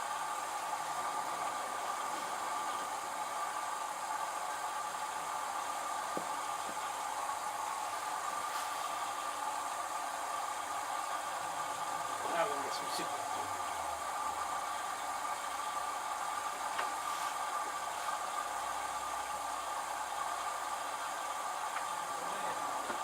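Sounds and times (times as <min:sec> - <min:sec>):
washing machine whirring hum: 0:00.0 - 0:23.0.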